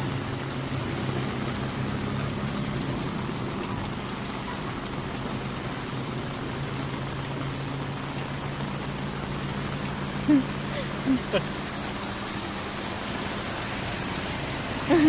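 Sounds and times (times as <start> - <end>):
heavy rain on ground and water: 0.0 - 15.0.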